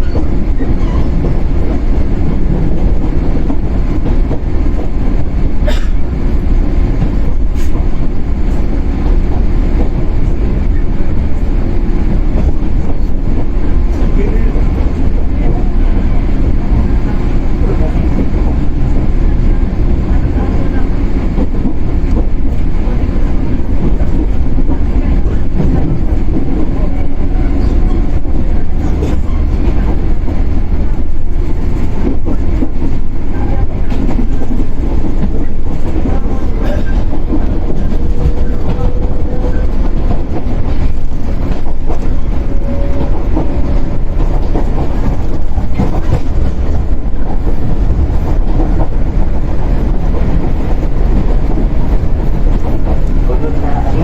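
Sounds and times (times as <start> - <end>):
rail joint clacks: 0.0 - 54.0
train motors and wheels rumbling: 0.0 - 54.0.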